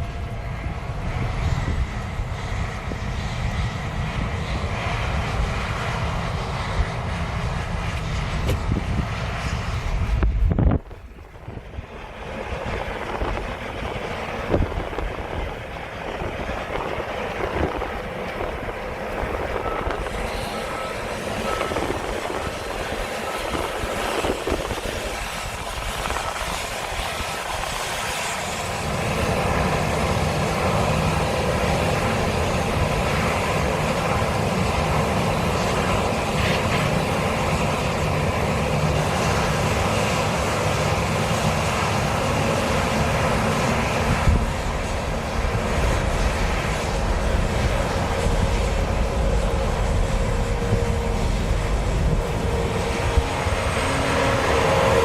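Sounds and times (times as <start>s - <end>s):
combine harvester engine drone: 0.0s - 55.0s
wind noise: 0.0s - 55.0s.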